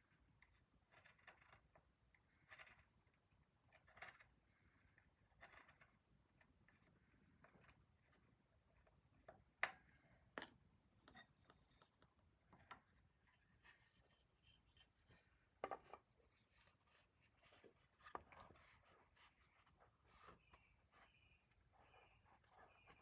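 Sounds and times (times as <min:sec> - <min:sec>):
soft scratching and handling: 0:00.4 - 0:09.3, 0:11.1 - 0:23.0.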